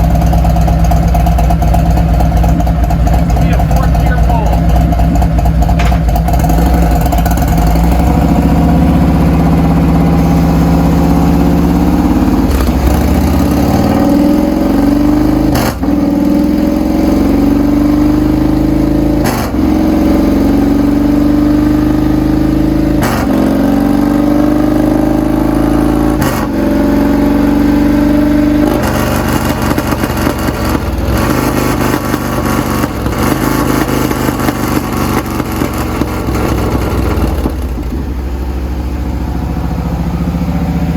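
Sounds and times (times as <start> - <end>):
motorcycle engine revving hard: 0.0 - 40.9.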